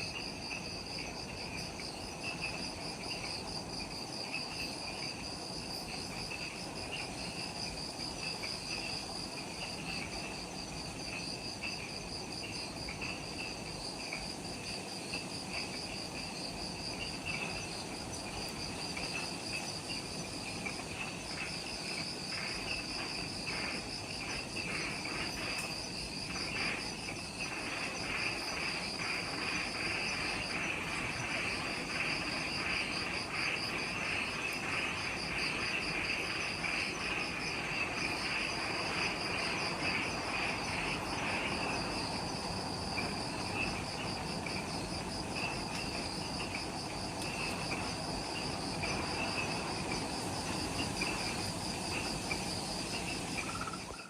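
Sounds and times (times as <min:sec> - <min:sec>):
forest insects chorus: 0:00.0 - 0:54.0
insect fast pulsing trill: 0:00.0 - 0:54.0.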